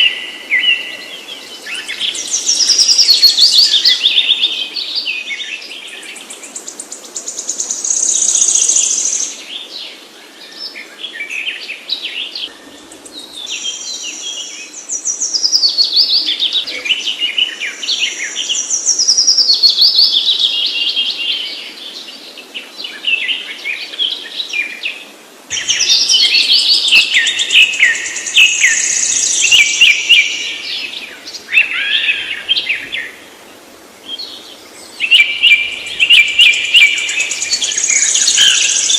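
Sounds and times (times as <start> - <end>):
faint background hiss: 0.0 - 38.9
songbirds chirping and trilling: 0.0 - 38.9.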